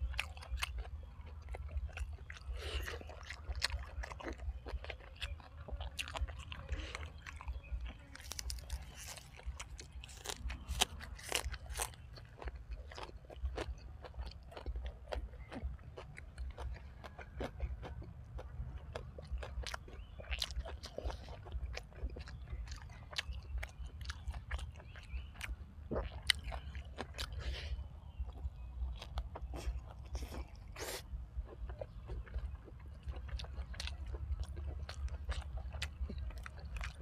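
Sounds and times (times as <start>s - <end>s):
person chewing and biting food: 0.0s - 37.0s
steady low hum: 0.0s - 37.0s.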